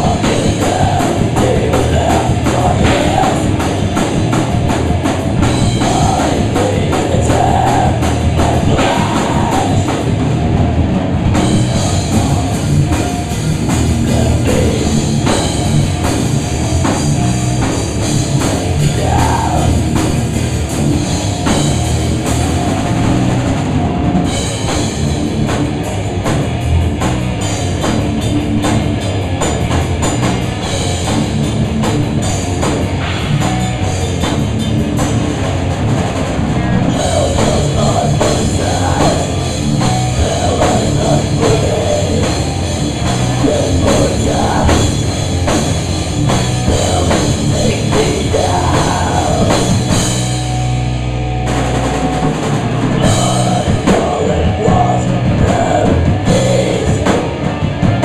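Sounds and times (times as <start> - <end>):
drum kit: 0.0 - 58.0
electric guitar: 0.0 - 58.0
rock band playing live: 0.0 - 58.0.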